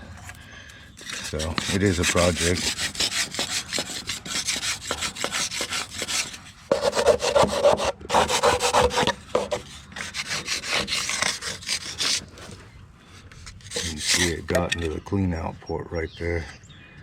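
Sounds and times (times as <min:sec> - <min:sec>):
scraping clay off mower deck: 0:01.0 - 0:15.0.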